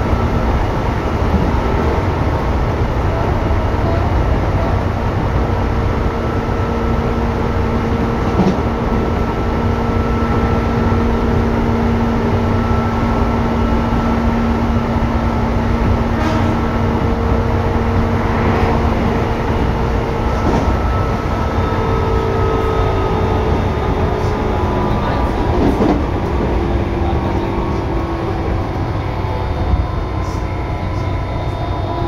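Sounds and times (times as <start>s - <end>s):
electric train wheels rumbling: 0.0s - 32.0s.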